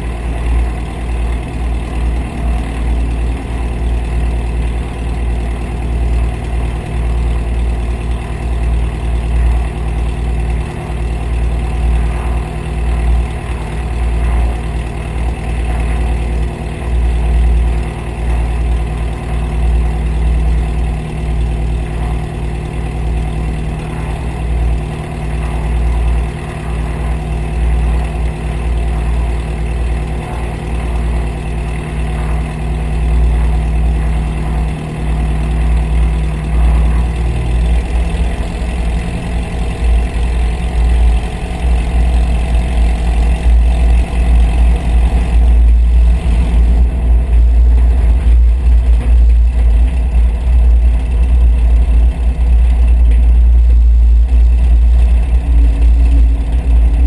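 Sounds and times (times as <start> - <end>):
propeller aircraft engine idling: 0.0 - 57.0.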